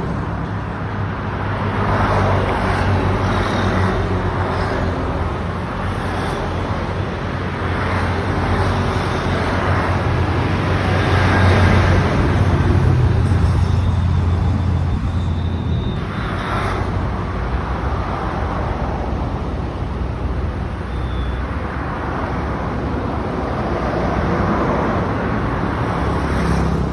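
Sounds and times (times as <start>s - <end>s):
road traffic noise: 0.0s - 26.9s.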